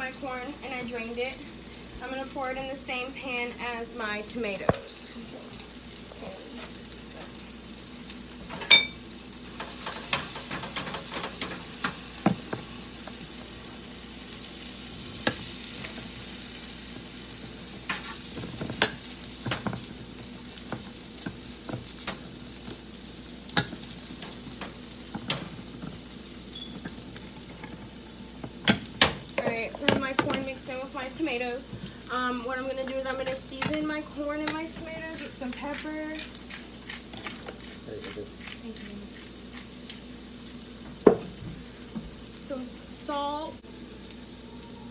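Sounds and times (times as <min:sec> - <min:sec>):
vegetables sizzling in oil: 0:00.0 - 0:44.9.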